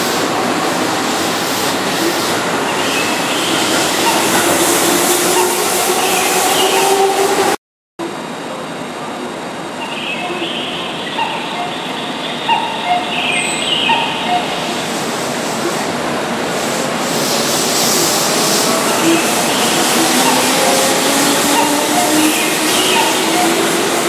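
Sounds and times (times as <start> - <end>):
electric train running past: 0.0 - 24.0.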